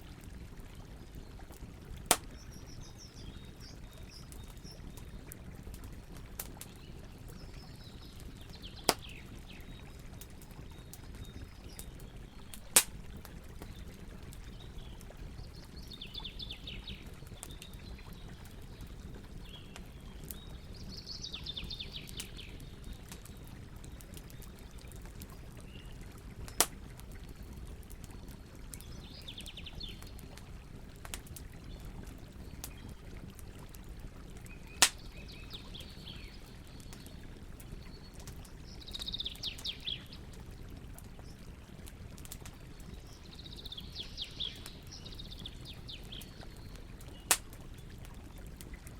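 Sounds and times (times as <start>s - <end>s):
campfire burning with crackles: 0.0s - 48.9s.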